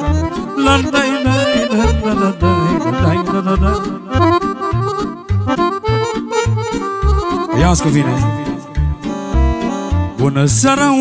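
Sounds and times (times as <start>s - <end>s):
accordion playing dance tune: 0.0s - 10.3s.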